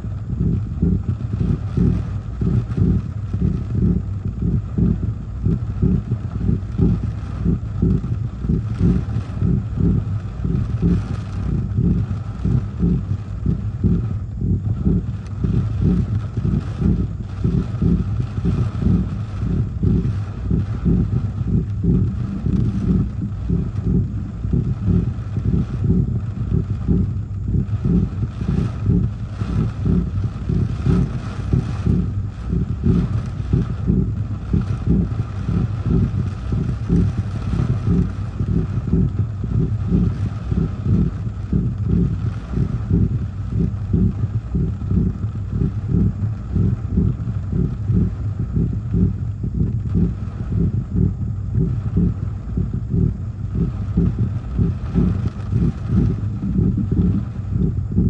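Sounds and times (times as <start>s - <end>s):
faint hiss of rain: 0.0s - 58.0s
storm wind buffeting microphone: 0.0s - 58.0s.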